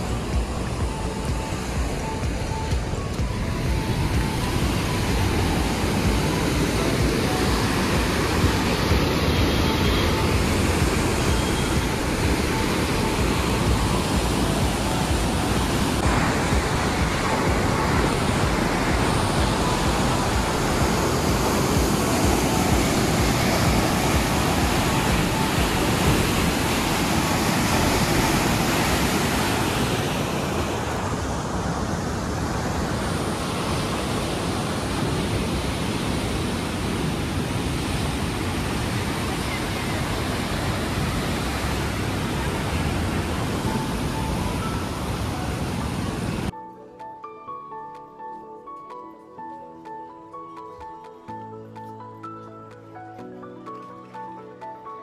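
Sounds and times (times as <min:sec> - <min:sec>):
water rushing down canal: 0:00.0 - 0:46.5.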